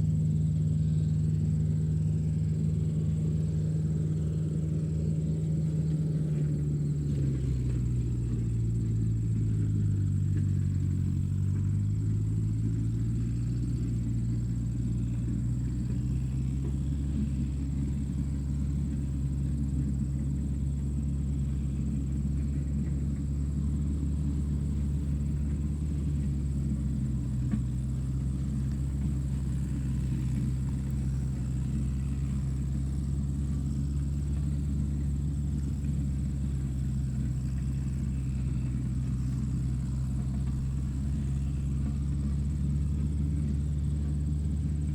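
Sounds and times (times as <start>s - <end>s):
low engine drone: 0.0s - 44.9s.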